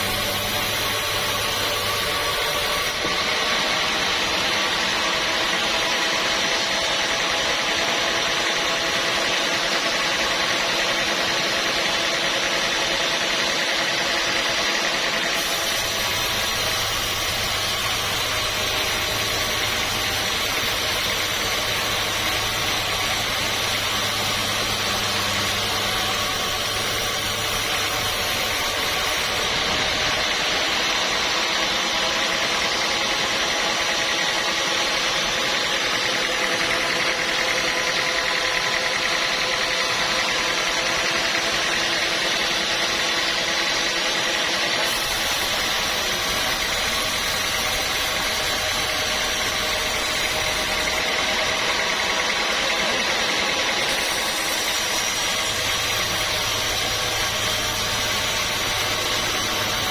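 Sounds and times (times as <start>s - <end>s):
noisy mechanical wash: 0.0s - 59.9s
sawmill motor hum: 0.0s - 59.9s.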